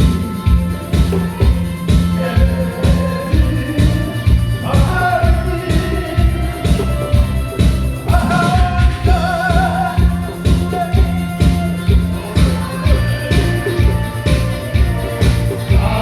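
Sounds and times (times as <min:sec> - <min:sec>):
upbeat pop music: 0:00.0 - 0:16.0.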